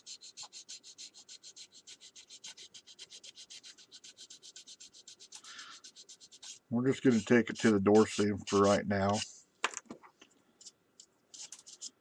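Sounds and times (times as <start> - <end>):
sanding stick rubbing plastic: 0.0 - 9.3, 11.3 - 12.0.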